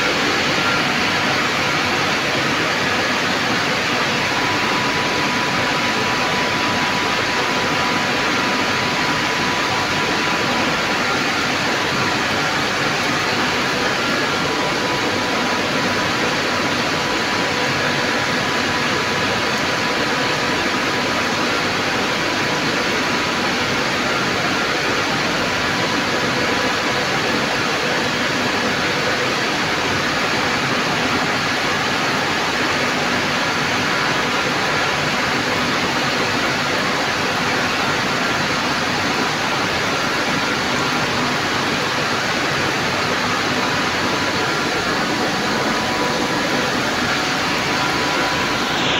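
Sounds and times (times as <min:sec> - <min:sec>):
pump and water rushing: 0:00.0 - 0:48.9.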